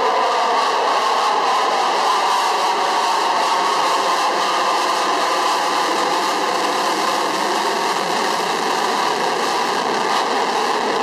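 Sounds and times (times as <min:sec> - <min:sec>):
fighter jet afterburner roar: 0:00.0 - 0:11.0.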